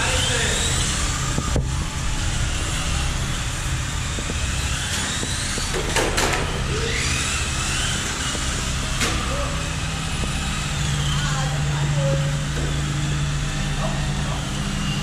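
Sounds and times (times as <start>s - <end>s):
electric toy car motors whining: 0.0s - 15.0s
steady rumble: 0.0s - 15.0s.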